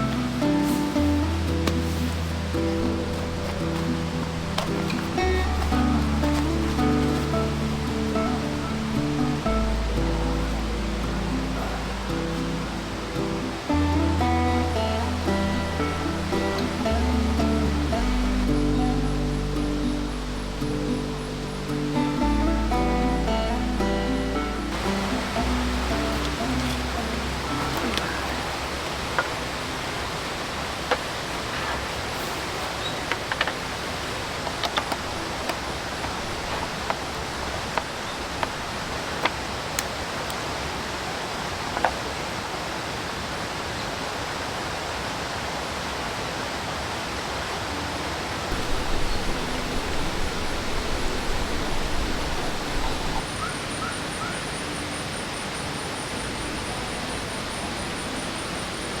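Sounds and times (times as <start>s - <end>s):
stream and waterfall rushing: 0.0s - 59.0s.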